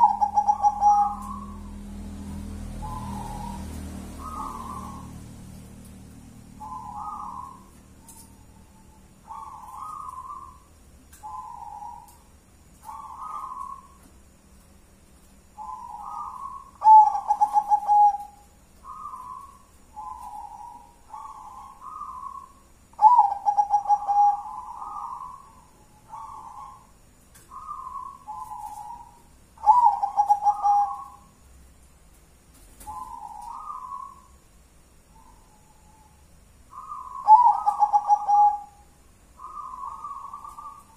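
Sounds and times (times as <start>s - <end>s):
dove cooing: 0.0s - 5.5s, 6.3s - 14.1s, 15.6s - 31.4s, 32.8s - 34.4s, 35.2s - 40.9s.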